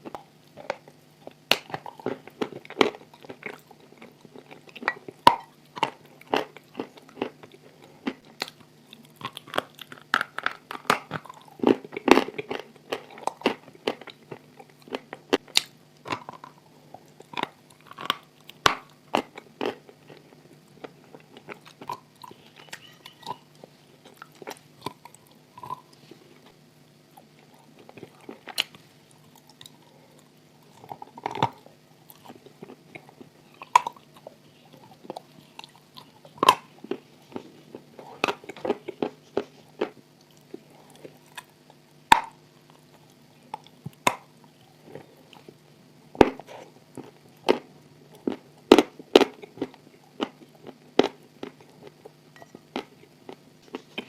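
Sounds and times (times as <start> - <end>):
crunchy chewing: 0.0 - 54.0
faint steady hum: 0.0 - 54.0.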